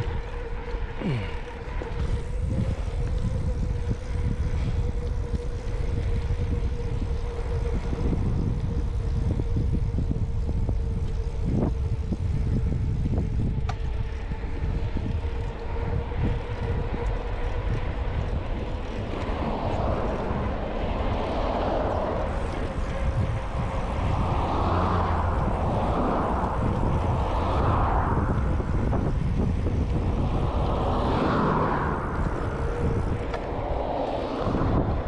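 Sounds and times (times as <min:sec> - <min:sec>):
road traffic passing: 0:00.0 - 0:35.0
wind rushing over camera: 0:00.0 - 0:35.0.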